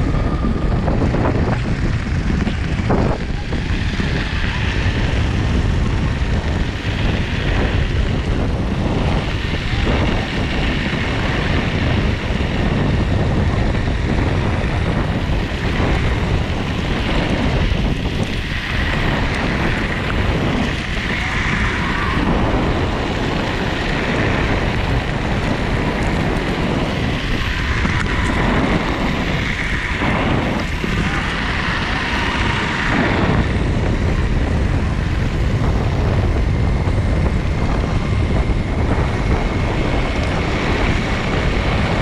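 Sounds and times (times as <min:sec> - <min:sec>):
skateboard tyres rolling over gravel: 0:00.0 - 0:42.0
wind buffeting microphone: 0:00.0 - 0:42.0.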